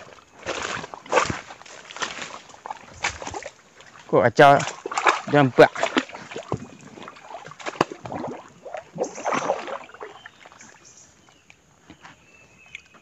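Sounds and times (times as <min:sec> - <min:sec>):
water sloshing around wading legs: 0:00.0 - 0:13.0.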